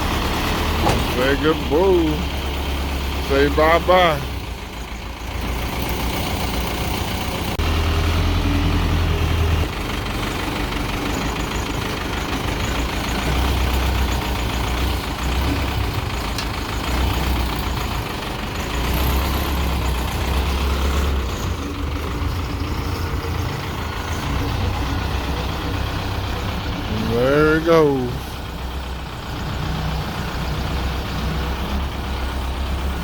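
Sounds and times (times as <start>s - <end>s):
heavy vehicle engine revving: 0.0s - 33.0s.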